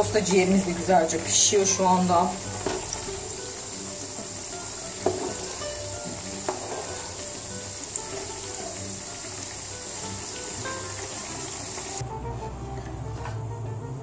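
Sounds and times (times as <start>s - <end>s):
meat deep-frying in hot oil: 0.0s - 12.0s.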